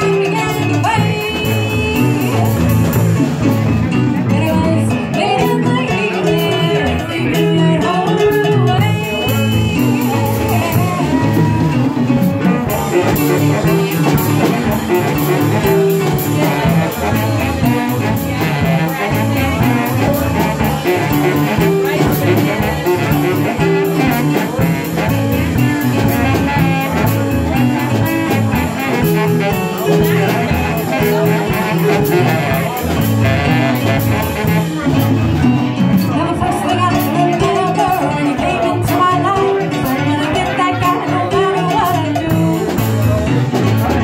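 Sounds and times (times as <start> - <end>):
bass guitar: 0.0 - 44.0
drums and percussion: 0.0 - 44.0
keyboard: 0.0 - 44.0
saxophone lead: 0.0 - 44.0.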